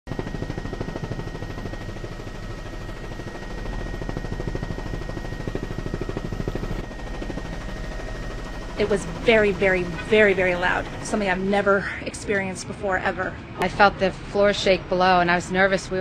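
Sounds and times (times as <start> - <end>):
helicopter rotor chopping: 0.0 - 16.0.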